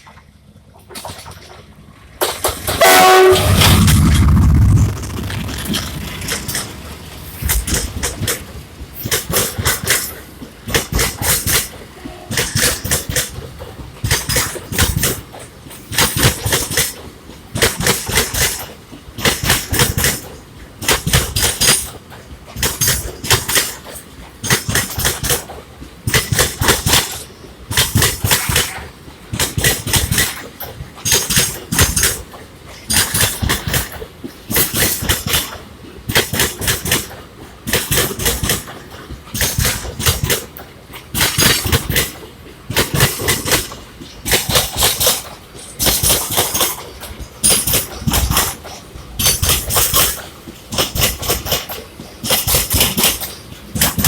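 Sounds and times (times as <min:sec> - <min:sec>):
train wheels clattering over rail joints: 0:00.0 - 0:04.2, 0:05.7 - 0:54.0
low train rumble: 0:00.0 - 0:54.0.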